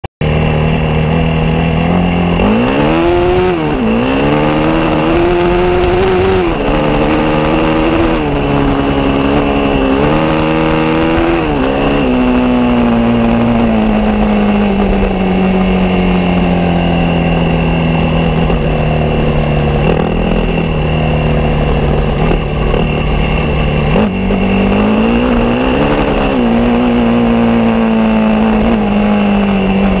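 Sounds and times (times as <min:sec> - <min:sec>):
motorcycle engine revving: 0:00.2 - 0:30.0.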